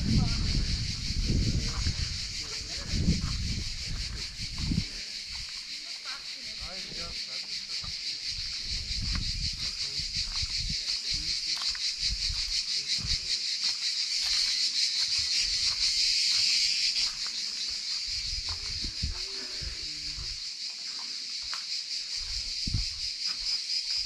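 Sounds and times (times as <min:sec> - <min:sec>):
cicadas calling: 0:00.0 - 0:24.0.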